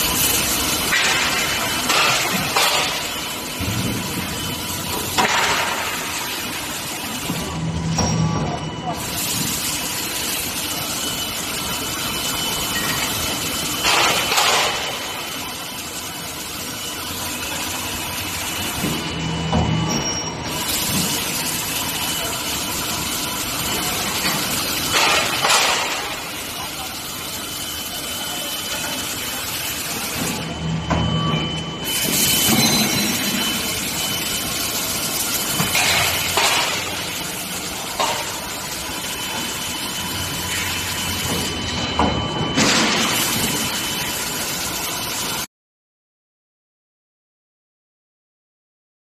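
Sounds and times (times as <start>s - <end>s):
heating machine hum: 0.0s - 45.5s.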